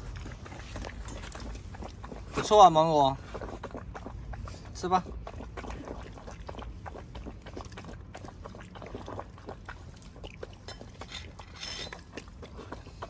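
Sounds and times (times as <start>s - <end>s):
dog lapping from metal bowl: 0.0s - 13.0s.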